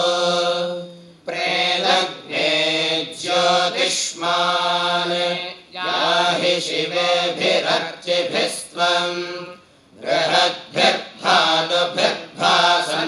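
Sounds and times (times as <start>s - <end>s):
men chanting a hymn in unison: 0.0s - 13.0s.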